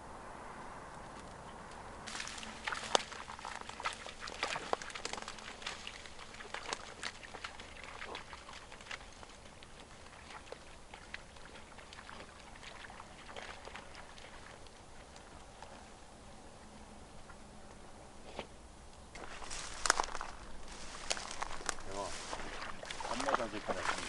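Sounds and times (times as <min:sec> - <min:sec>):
faint outdoor background noise: 0:00.0 - 0:24.0
crunching footsteps on path: 0:01.0 - 0:16.0, 0:19.1 - 0:24.0.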